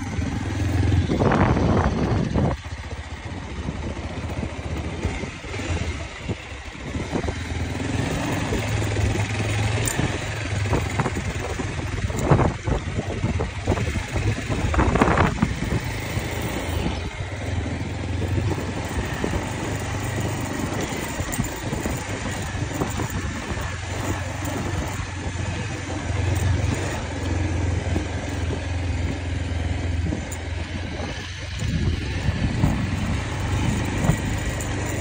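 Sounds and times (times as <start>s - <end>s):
motorcycle engine hum: 0.0s - 35.0s
wind and road noise: 0.0s - 35.0s.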